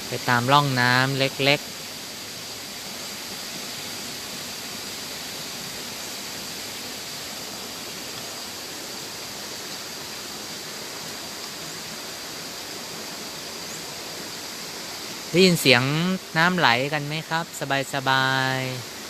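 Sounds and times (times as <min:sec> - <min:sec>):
water rushing in channel: 0:00.0 - 0:19.0.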